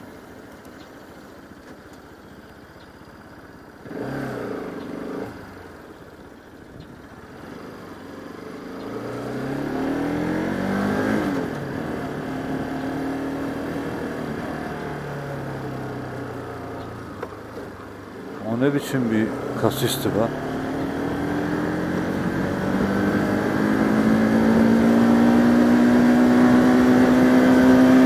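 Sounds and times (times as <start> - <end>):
motorcycle engine revving: 1.5 - 28.0.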